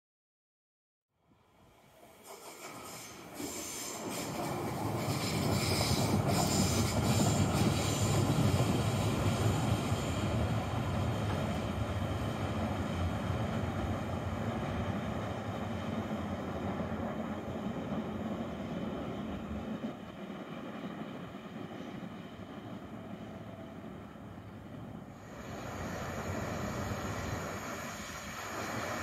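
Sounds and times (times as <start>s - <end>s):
train rumbling on rails: 1.5s - 29.0s.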